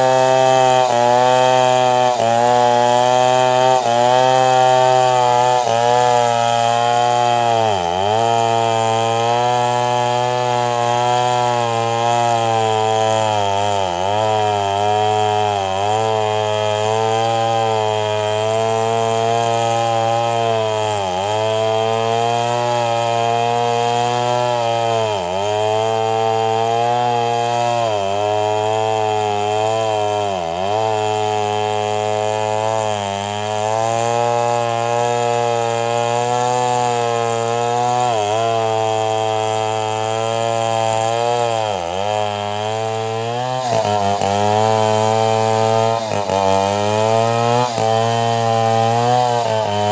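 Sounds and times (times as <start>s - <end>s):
chainsaw ripping a log: 0.0s - 49.9s.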